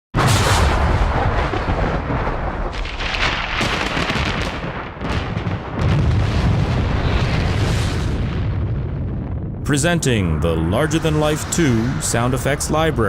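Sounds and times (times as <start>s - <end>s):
thunder rumbling and crackling: 0.2s - 13.0s.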